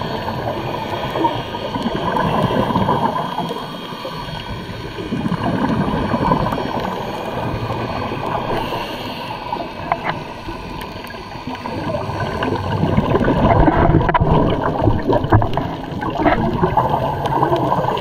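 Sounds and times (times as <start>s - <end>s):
regulator bubbles gurgling underwater: 0.0s - 18.0s.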